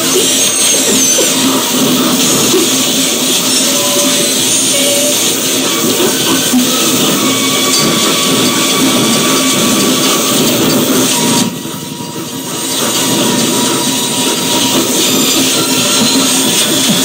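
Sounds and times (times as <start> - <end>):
harsh electronic noise music: 0.0 - 17.0.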